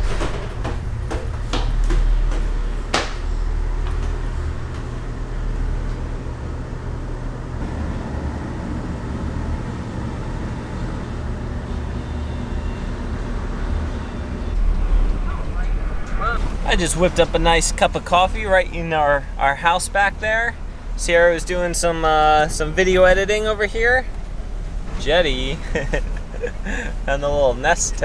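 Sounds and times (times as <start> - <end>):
ferry engines droning: 0.0 - 28.0.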